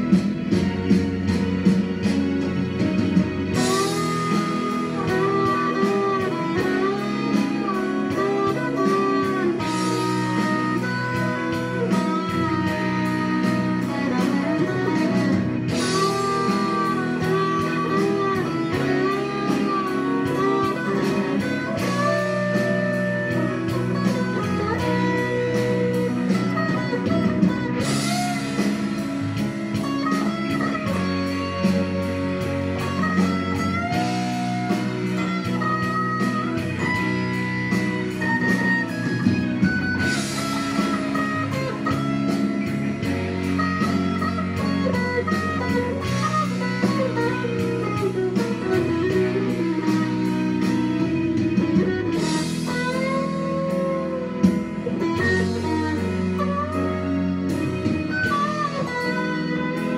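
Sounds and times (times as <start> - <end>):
backing track of sustained chords: 0.0 - 59.9
electric guitar lead: 0.0 - 59.9.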